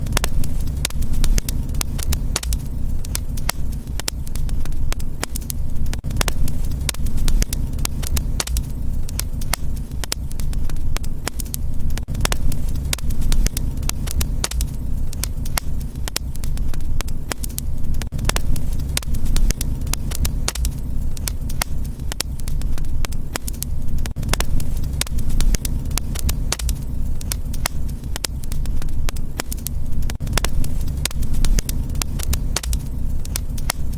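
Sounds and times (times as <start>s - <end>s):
fireplace fire crackling: 0.0s - 33.9s
low rumble: 0.0s - 33.9s.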